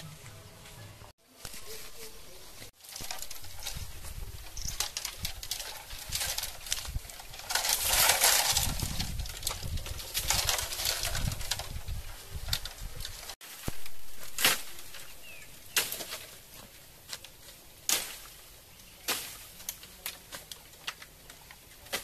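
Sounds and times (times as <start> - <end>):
bamboo leaves rustling: 0.0 - 22.0.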